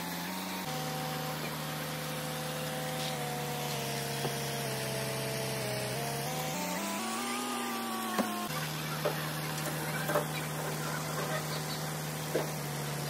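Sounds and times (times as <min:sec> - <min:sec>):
truck engine humming: 0:00.6 - 0:13.0.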